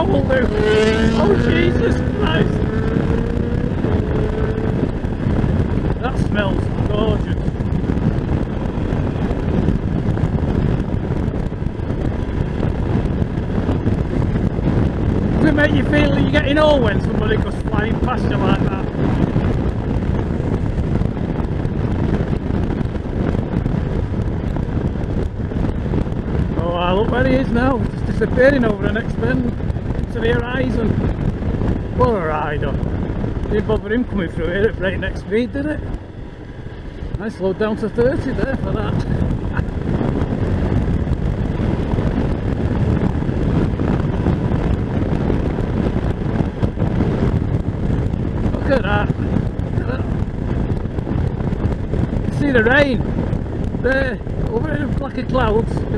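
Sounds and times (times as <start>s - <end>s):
motorcycle engine: 0.0s - 55.9s
road noise: 0.0s - 55.9s
wind buffeting microphone: 0.0s - 55.9s.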